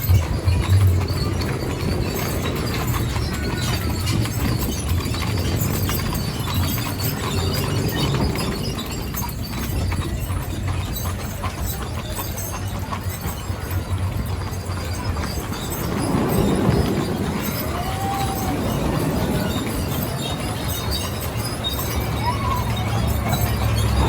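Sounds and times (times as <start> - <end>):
horses' hooves clip-clopping: 0.0 - 24.0
low rumble of moving coach: 0.0 - 24.0.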